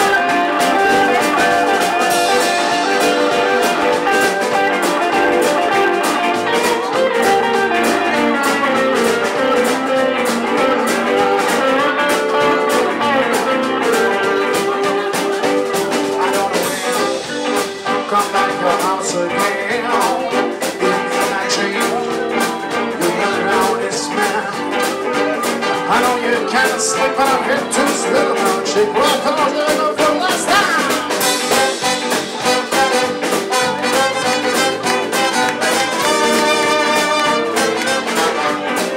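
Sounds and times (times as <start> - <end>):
drum kit: 0.0 - 38.9
electric guitars: 0.0 - 38.9
hammond organ: 0.0 - 38.9.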